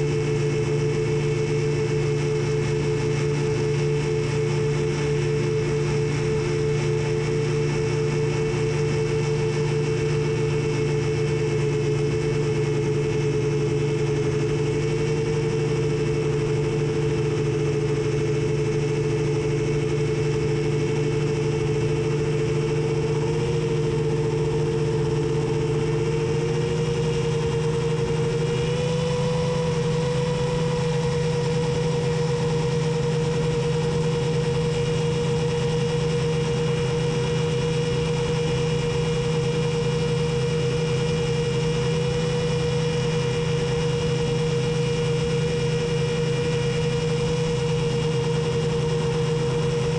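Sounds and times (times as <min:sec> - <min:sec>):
quadcopter propellers whining: 0:00.0 - 0:49.9.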